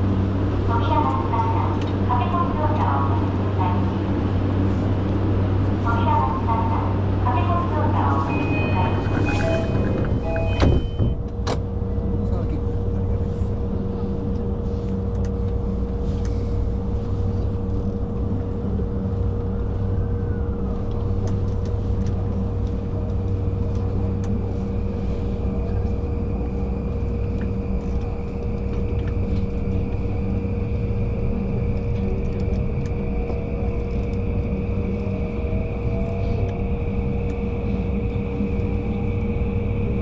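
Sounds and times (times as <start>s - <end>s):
constant hum: 0.0s - 40.0s
train wheels rumbling on rails: 0.0s - 40.0s.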